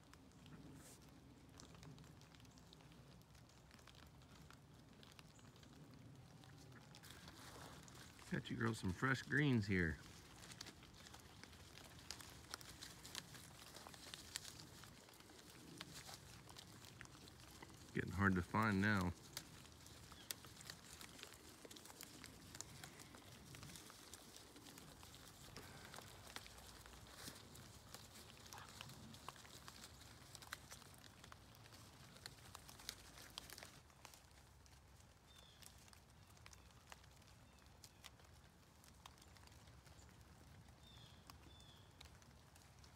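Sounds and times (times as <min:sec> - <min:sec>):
goats tearing and chewing leaves: 0:00.0 - 0:42.9.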